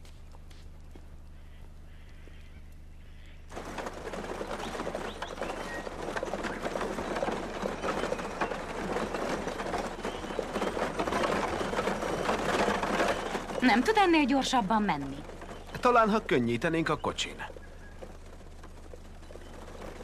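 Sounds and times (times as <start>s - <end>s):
horse hooves: 0.0s - 20.0s
wagon wheels and harness clattering: 3.4s - 20.0s.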